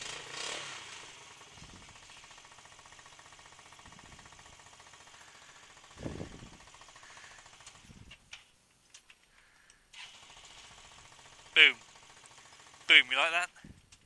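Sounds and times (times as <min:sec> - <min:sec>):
scooter engine idling: 0:00.0 - 0:08.1, 0:09.9 - 0:13.7.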